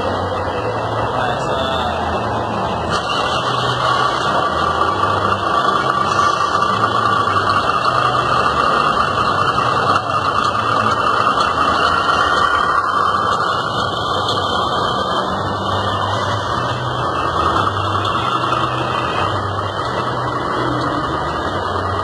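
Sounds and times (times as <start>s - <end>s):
diesel truck engine at low revs: 0.0s - 22.0s.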